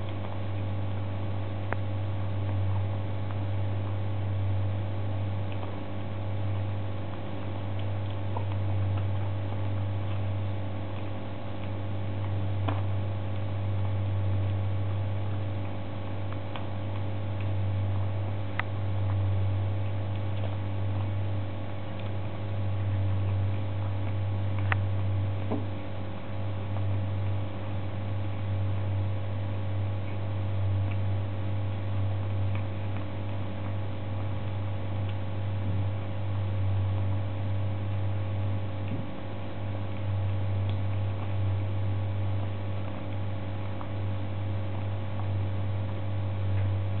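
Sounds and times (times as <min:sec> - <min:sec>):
kitten chewing clicks: 0:00.0 - 0:47.0
steady low hum: 0:00.0 - 0:47.0.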